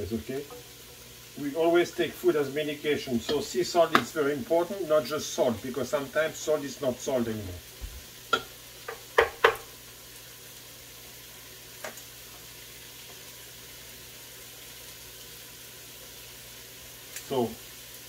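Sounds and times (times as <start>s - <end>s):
leeks sizzling in butter: 0.0s - 18.0s.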